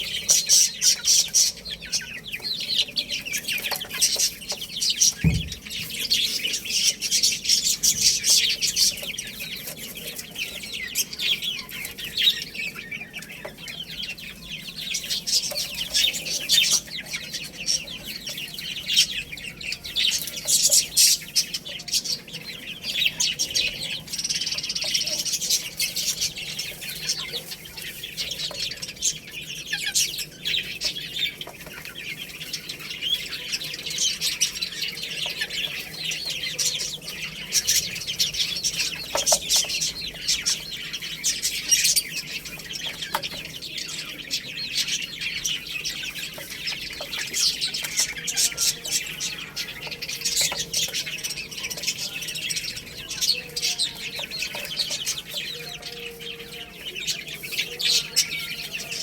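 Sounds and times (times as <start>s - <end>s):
baby chicks chirping: 0.0s - 59.0s.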